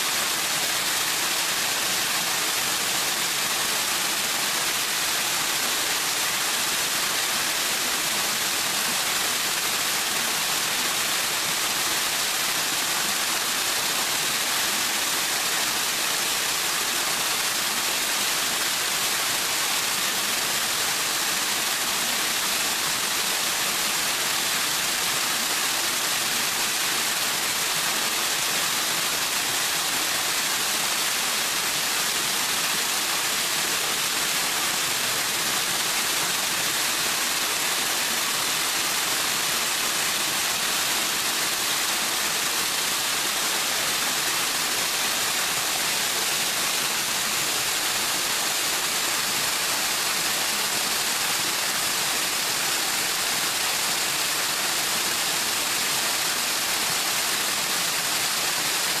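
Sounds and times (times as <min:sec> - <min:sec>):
waterfall splashing onto rocks: 0:00.0 - 0:59.0.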